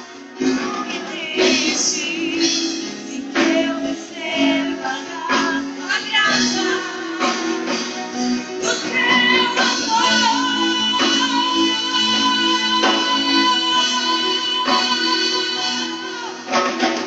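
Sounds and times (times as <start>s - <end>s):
woman singing: 0.0s - 16.8s
church band playing gospel: 0.0s - 17.0s.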